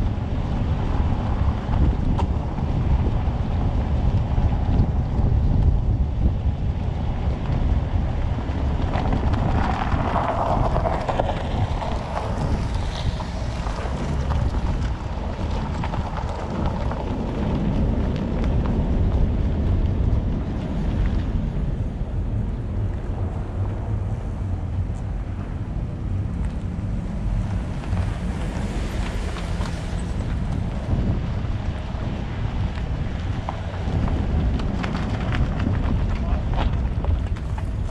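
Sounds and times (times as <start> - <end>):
rush of noise: 0.0 - 37.9
vehicle rolling slowly: 0.0 - 37.9
wind buffeting microphone: 0.0 - 37.9.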